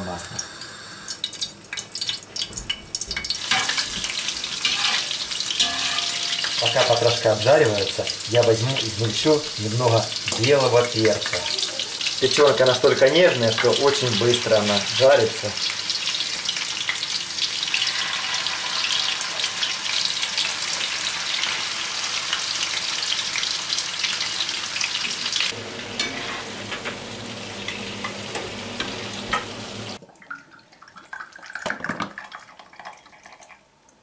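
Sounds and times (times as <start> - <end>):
meat sizzling in a pan: 0.0 - 30.0
pouring sounds: 1.2 - 26.0, 29.8 - 34.0.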